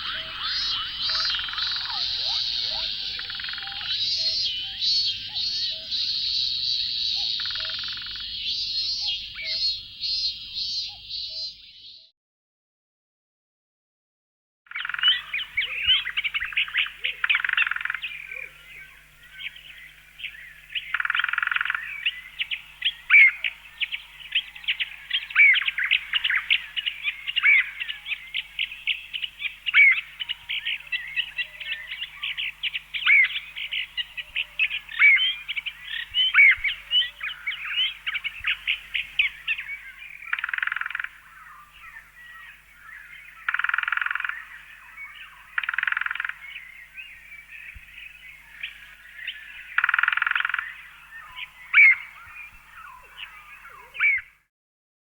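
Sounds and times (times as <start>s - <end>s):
birds chirping: 0.0s - 12.0s, 14.7s - 54.4s.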